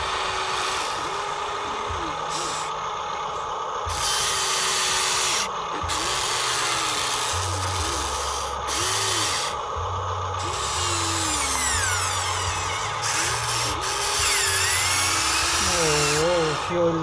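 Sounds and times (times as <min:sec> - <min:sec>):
small electric motors whirring: 0:00.0 - 0:17.0.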